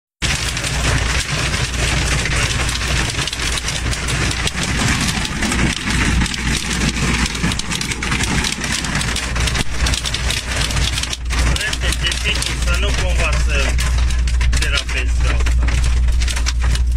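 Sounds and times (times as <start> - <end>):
engine and tyres rumbling: 0.2 - 16.9
hail pelting a vehicle: 0.2 - 16.9.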